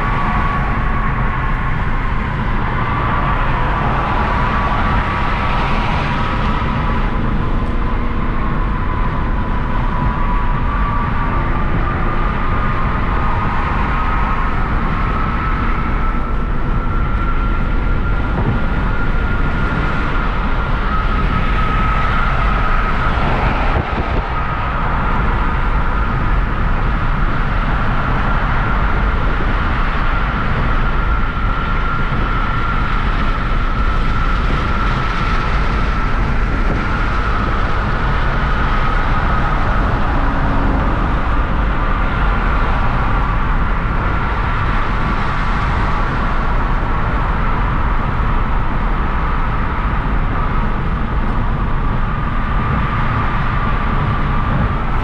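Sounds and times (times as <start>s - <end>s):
car engine rumble: 0.0s - 55.0s
high whine: 0.0s - 55.0s
road noise: 0.0s - 55.0s.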